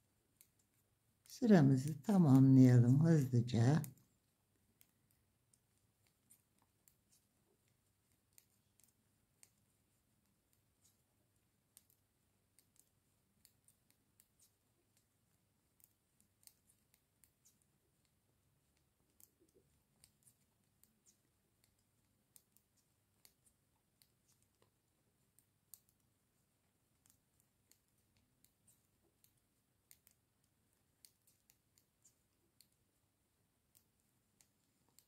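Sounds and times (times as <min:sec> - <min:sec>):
knitting needles clicking: 0:04.7 - 0:33.0, 0:33.6 - 0:35.0.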